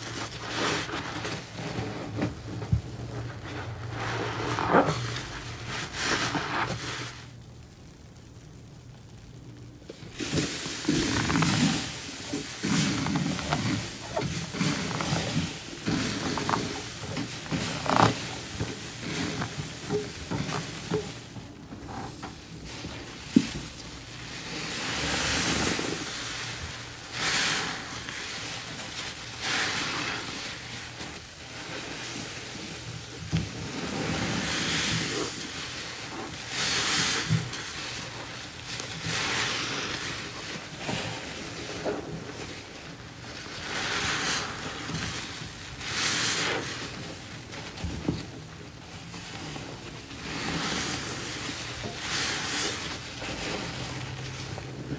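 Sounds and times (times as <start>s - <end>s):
wet sponges squelching: 0.0s - 7.6s, 8.2s - 54.9s.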